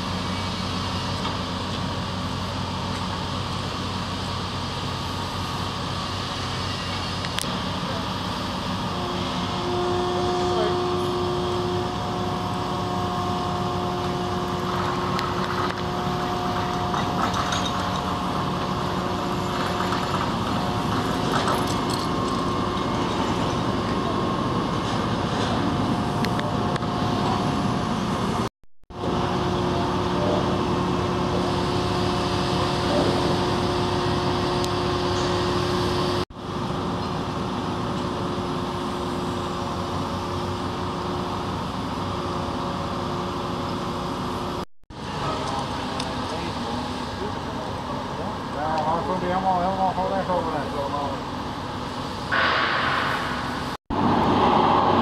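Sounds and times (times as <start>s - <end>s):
crane diesel engine running: 0.0s - 55.0s
steady whine: 0.0s - 55.0s.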